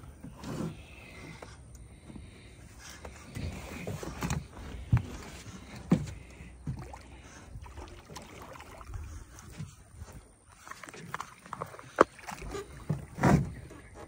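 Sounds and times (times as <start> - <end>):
water sloshing against boat hull: 0.0 - 14.0.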